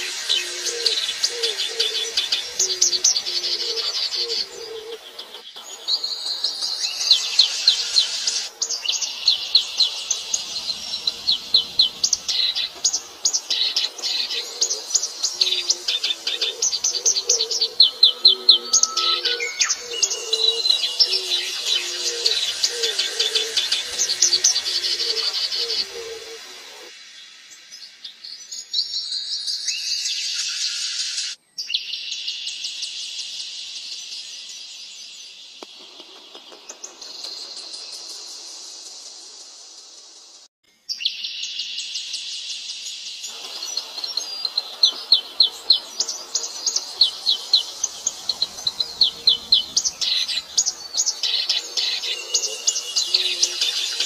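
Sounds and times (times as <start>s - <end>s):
steady high insect buzz: 0.0s - 31.4s, 36.7s - 40.5s, 41.6s - 54.0s
small birds chirping: 0.0s - 54.0s.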